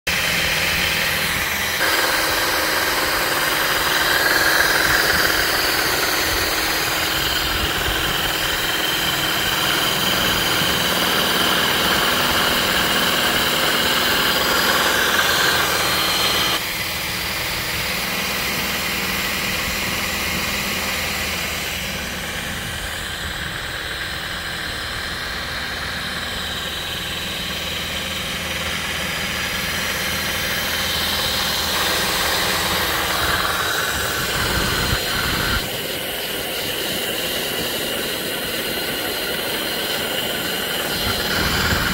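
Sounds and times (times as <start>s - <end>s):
cordless drill motor whine: 0.1s - 41.9s.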